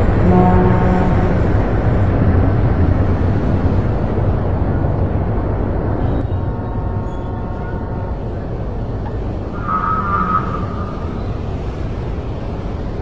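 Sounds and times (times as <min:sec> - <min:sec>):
faint steady tones: 0:00.0 - 0:13.0
low vehicle rumble: 0:00.0 - 0:13.0.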